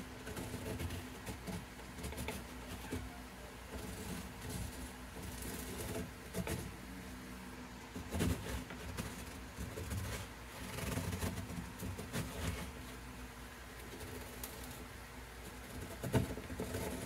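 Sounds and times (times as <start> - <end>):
wooden clamp knocks and scrapes: 0.0 - 6.8, 7.9 - 13.0, 13.8 - 17.0
steady low hum: 0.0 - 17.0.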